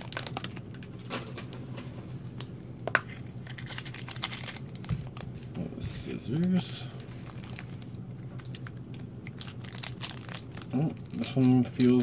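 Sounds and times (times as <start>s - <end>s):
plastic wrapper crinkling: 0.0s - 1.5s, 3.0s - 5.6s, 6.3s - 12.0s.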